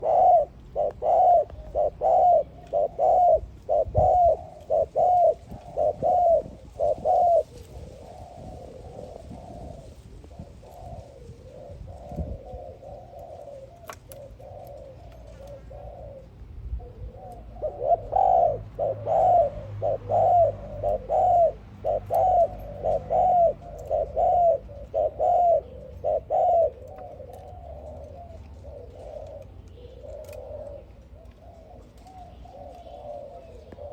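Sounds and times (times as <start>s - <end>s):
doves cooing: 0.0s - 33.9s.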